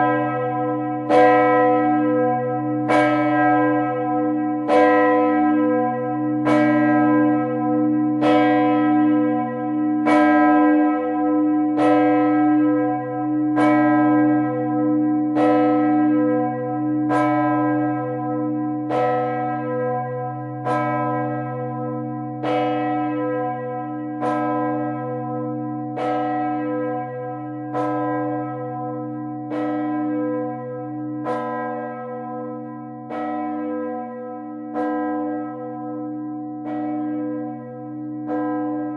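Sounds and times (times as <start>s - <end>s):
large church bell ringing: 0.0s - 38.9s.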